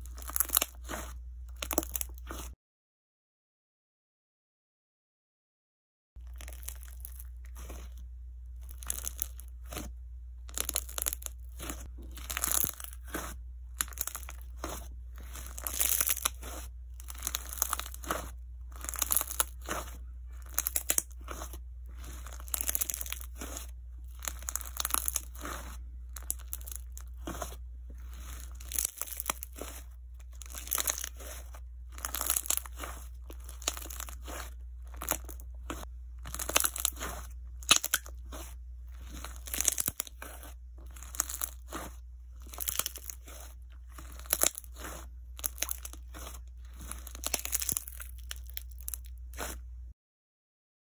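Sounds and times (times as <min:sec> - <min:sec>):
low hum: 0:06.2 - 0:48.3.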